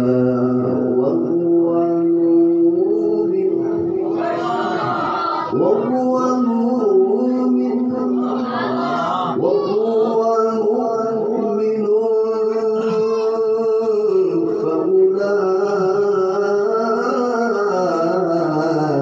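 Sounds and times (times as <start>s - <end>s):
man reciting melodically through microphone: 0.0s - 19.0s.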